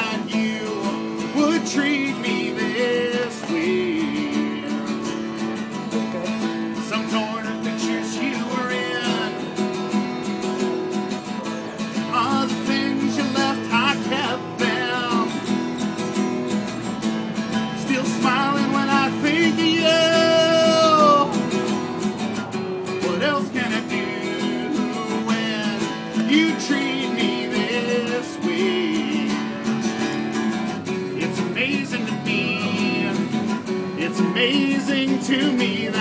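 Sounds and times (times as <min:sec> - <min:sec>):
man singing: 0:00.0 - 0:09.9, 0:11.4 - 0:16.5, 0:17.4 - 0:36.0
strummed acoustic guitar: 0:00.0 - 0:36.0.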